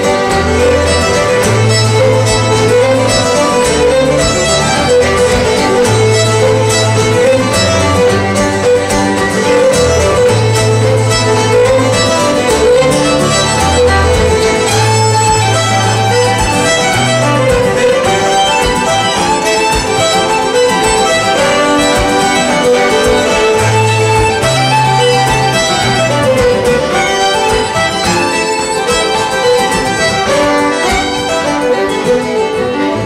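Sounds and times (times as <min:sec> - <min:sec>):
fiddles playing a fast reel: 0:00.0 - 0:33.0
strummed acoustic guitar: 0:00.0 - 0:33.0.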